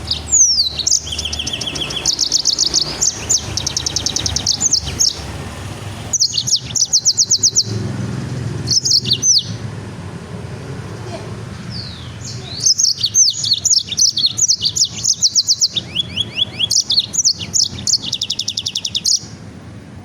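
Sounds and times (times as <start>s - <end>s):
songbird singing trills: 0.0s - 5.4s, 6.0s - 9.7s, 10.8s - 19.5s.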